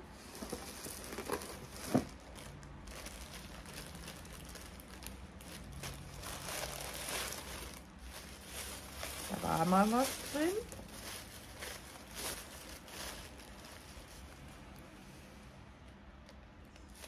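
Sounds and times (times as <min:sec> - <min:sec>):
plastic bag crinkling: 0:00.0 - 0:14.9.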